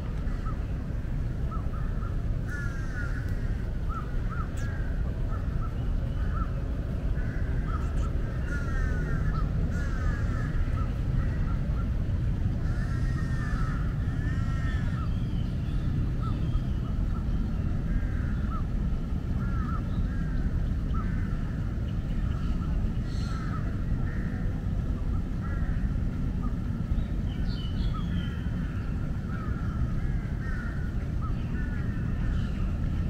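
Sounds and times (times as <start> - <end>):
birds chirping: 0.0 - 33.0
steady low rumble: 0.0 - 33.0.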